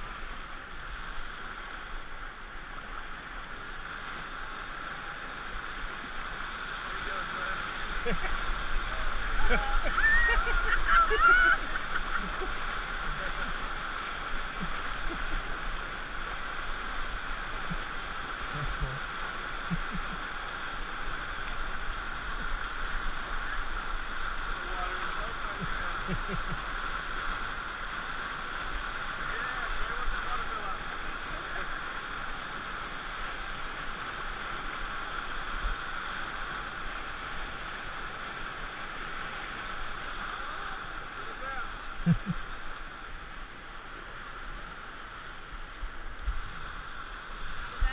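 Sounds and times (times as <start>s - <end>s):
whitewater rushing and churning: 0.0s - 47.9s.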